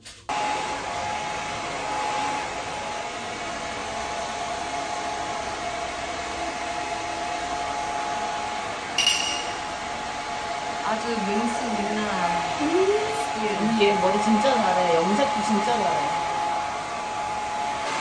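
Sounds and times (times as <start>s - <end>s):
hair dryer running: 0.3s - 18.0s.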